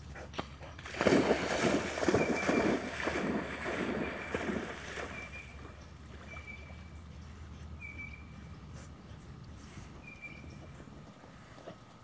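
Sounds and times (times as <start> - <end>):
puppy splashing through shallow water: 0.0 - 12.0.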